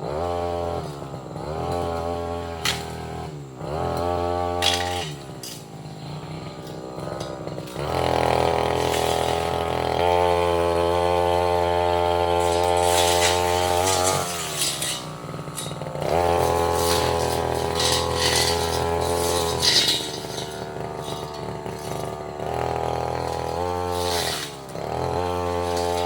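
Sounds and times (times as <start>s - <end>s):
brush cutter revving: 0.0s - 26.0s
blade striking saplings: 1.6s - 26.0s.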